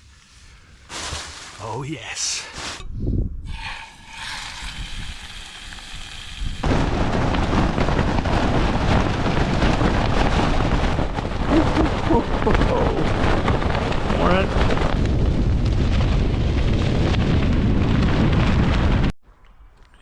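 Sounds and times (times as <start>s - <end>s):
strong wind buffeting microphone: 2.8s - 19.1s.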